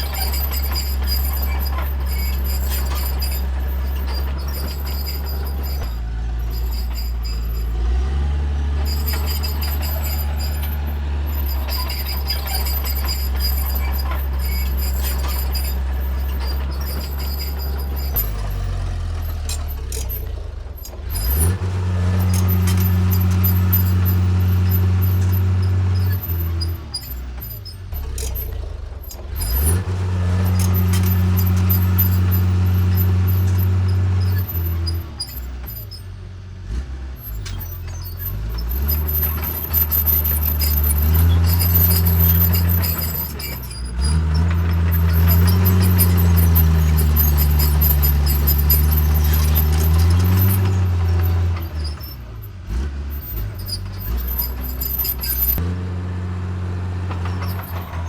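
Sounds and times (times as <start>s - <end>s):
bulldozer diesel engine revving: 0.0s - 58.0s.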